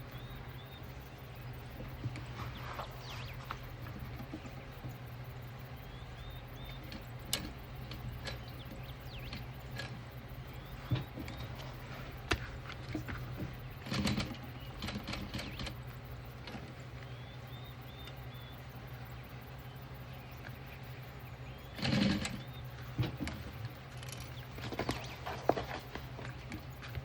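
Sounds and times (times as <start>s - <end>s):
birds chirping: 0.0s - 27.0s
steady low hum: 0.0s - 27.0s.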